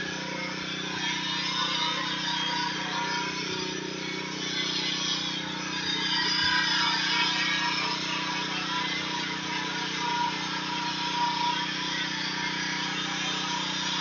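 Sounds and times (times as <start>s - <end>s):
pressure washer engine running: 0.0s - 14.0s.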